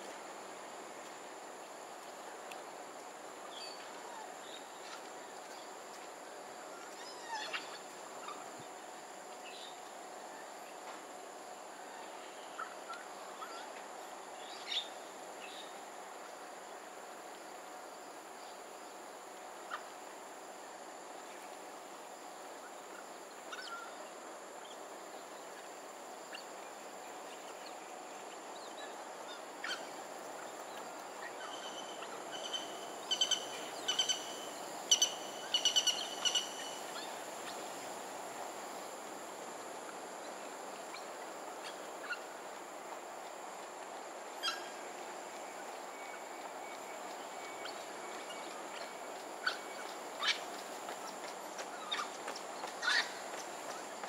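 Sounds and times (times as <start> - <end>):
faint high whine: 0.0 - 52.1.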